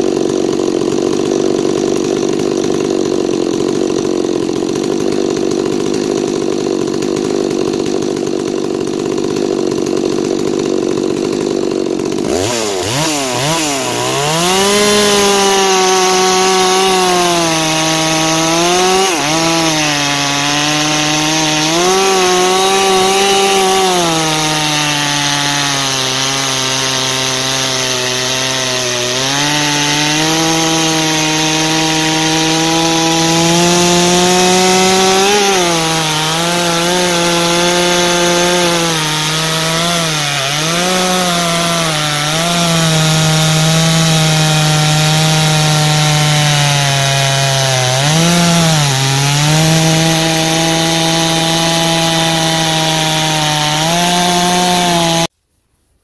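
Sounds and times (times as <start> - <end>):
chainsaw revving and cutting wood: 0.0 - 55.3.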